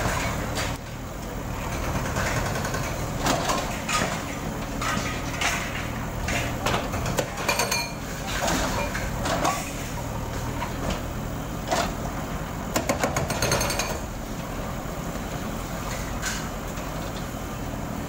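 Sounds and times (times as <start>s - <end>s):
diesel engines running: 0.0s - 18.0s.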